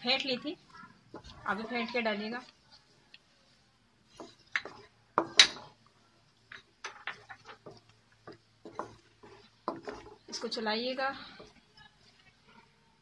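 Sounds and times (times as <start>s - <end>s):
wooden spatula scraping a wok: 0.0s - 13.0s.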